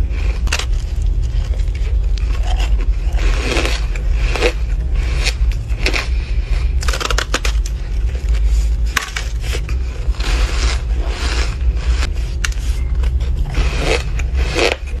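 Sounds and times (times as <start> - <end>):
crunchy chewing of ice: 0.0 - 15.0.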